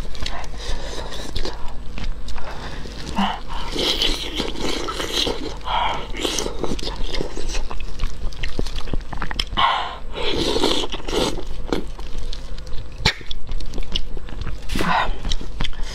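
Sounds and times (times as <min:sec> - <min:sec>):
person chewing: 0:00.0 - 0:15.9.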